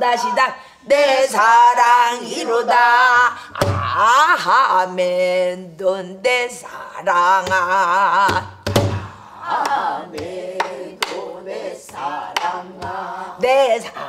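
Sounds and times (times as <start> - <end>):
person singing with vibrato: 0.0 - 14.0.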